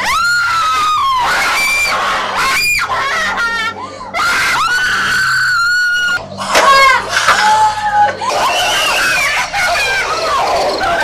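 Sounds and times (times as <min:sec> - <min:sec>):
people screaming: 0:00.0 - 0:11.0.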